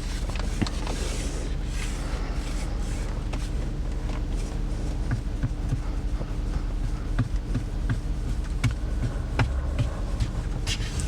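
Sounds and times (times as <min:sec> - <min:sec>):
low buzzing hum: 0:00.8 - 0:11.0.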